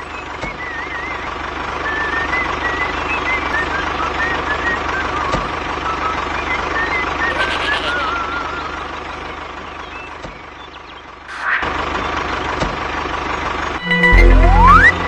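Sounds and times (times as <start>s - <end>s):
tractor motor humming: 0.0s - 15.0s.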